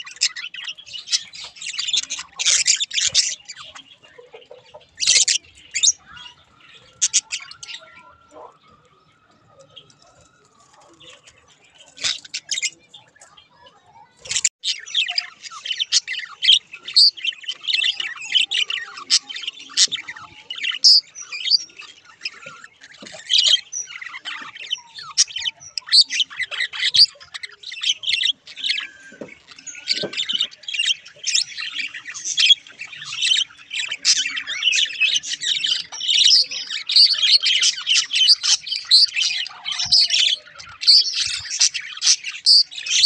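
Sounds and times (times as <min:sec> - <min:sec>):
budgerigars chattering and chirping: 0:00.0 - 0:43.0.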